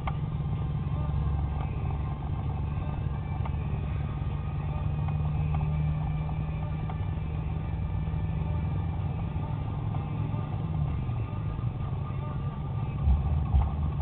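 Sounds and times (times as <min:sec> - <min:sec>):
car engine and tyre drone: 0:00.0 - 0:14.0.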